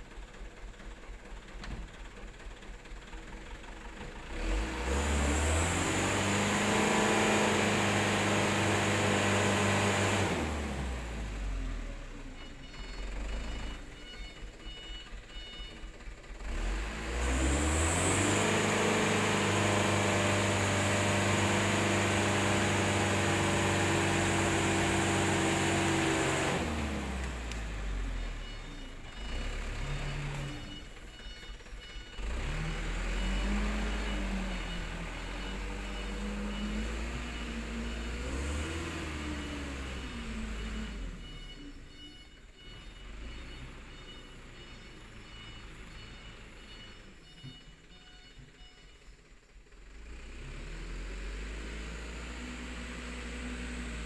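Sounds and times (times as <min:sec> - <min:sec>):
dump truck diesel engine revving: 0:03.1 - 0:48.0, 0:49.2 - 0:54.0.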